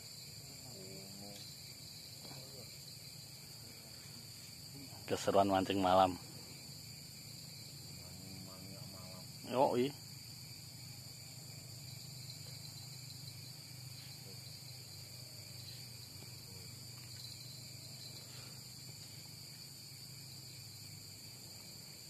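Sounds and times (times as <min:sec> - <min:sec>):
crickets and insects chirring: 0:00.0 - 0:22.0.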